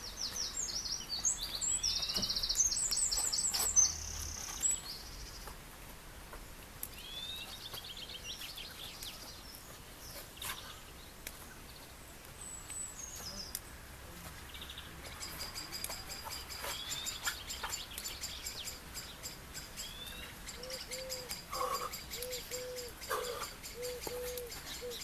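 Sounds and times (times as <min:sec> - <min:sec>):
birds singing: 0:00.0 - 0:05.6, 0:06.9 - 0:25.0.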